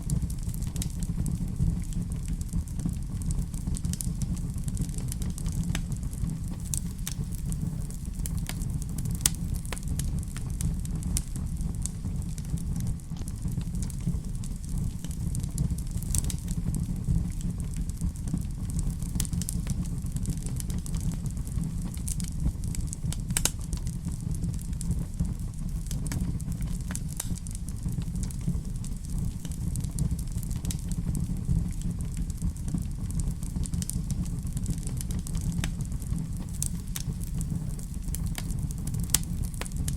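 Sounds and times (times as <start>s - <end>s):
fire rumbling in fireplace: 0.0s - 39.9s
wood fire popping and snapping: 0.0s - 39.9s.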